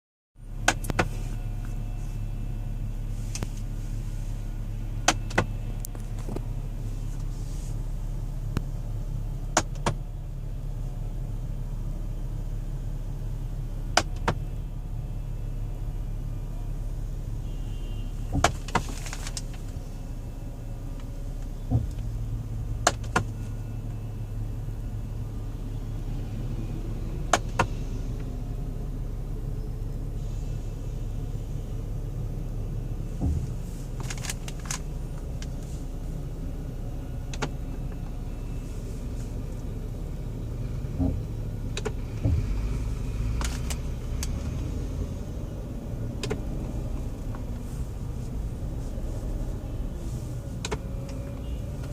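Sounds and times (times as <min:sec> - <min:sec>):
car low hum: 0:00.4 - 0:51.9.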